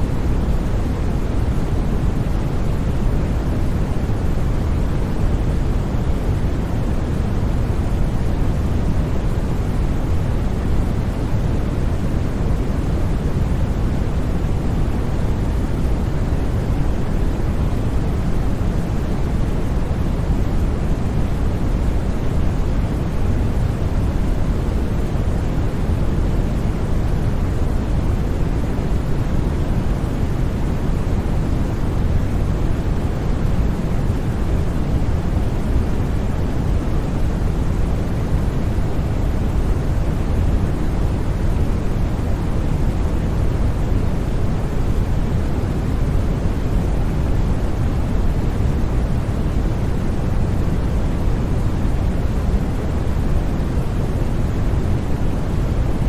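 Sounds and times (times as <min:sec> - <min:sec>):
deep white noise: 0:00.0 - 0:56.0.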